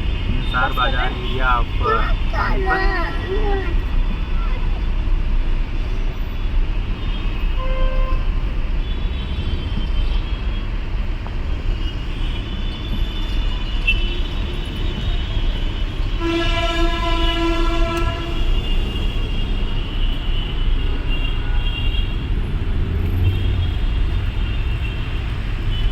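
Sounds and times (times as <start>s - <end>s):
car horns honking: 0.0s - 4.9s, 7.0s - 10.3s, 11.8s - 25.9s
low rumble of engines: 0.0s - 25.9s.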